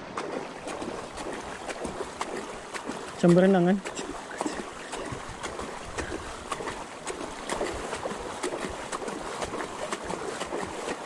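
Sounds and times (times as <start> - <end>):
water sloshing around bicycle wheels: 0.0 - 11.0.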